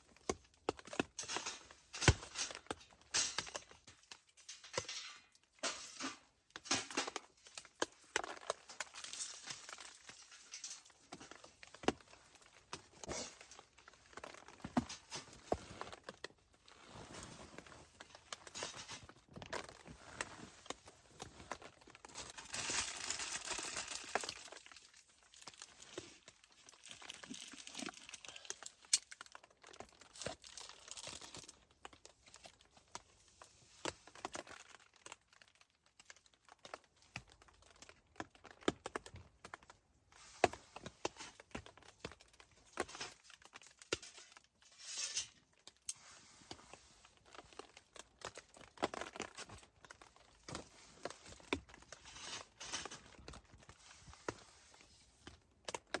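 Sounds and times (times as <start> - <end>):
crinkly rustling: 0.0 - 56.0.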